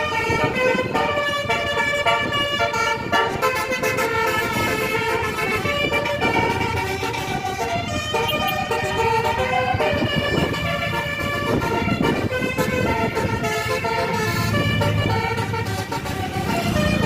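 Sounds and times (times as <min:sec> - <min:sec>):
bus horn playing a melody: 0:00.0 - 0:17.0.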